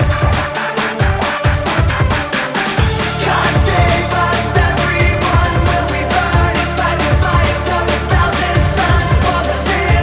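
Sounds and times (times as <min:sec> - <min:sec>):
heavy bass drum: 0:00.0 - 0:10.0
held bass line: 0:00.0 - 0:10.0.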